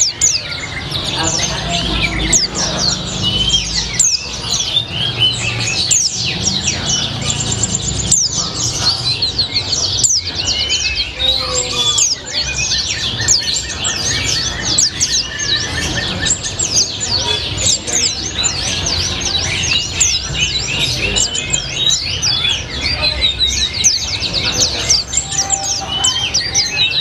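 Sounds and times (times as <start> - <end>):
bird chirping and trilling: 0.0 - 27.0.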